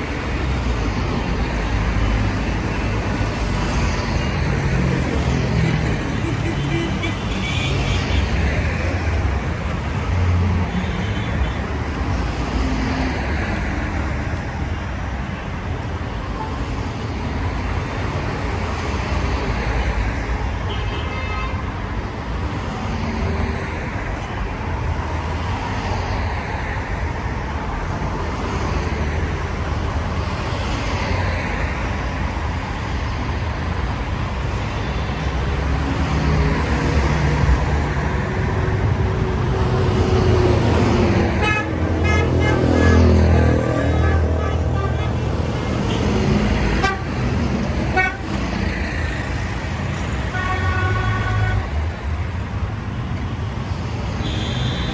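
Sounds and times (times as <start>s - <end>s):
cars passing by: 0.0s - 54.9s.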